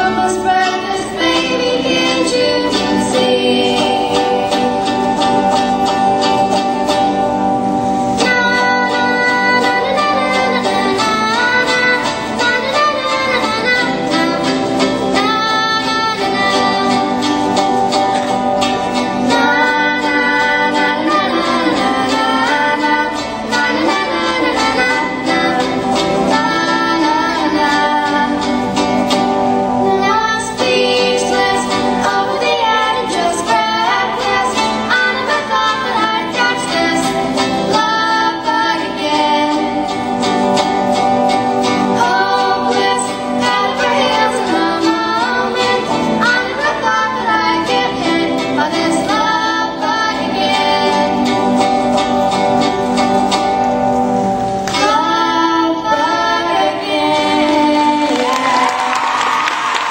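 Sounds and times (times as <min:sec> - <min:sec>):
girls singing together: 0:00.0 - 0:06.6, 0:08.1 - 0:40.6, 0:41.5 - 0:52.0, 0:54.6 - 0:59.9
electric guitar: 0:00.0 - 0:59.9
small acoustic string instrument: 0:00.0 - 0:59.9.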